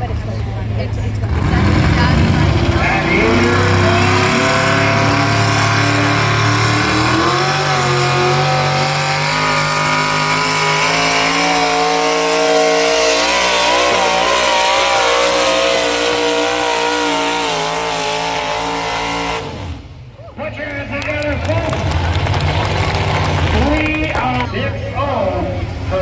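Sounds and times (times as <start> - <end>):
tractor engine at full throttle: 0.0 - 26.0.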